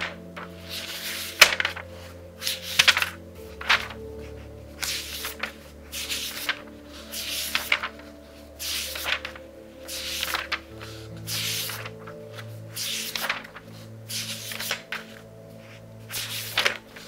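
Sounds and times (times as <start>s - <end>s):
book pages turning: 0.0s - 17.0s
soft background music: 0.0s - 17.0s.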